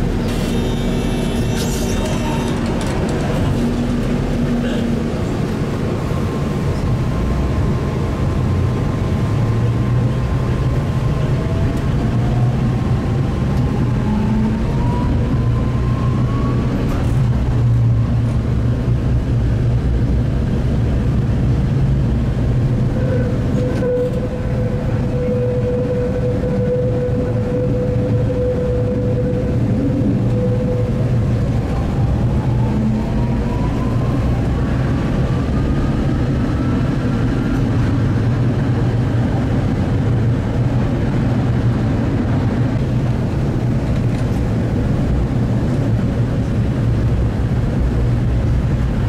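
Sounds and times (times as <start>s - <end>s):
tram wheels rumbling on rail: 0.0s - 49.0s.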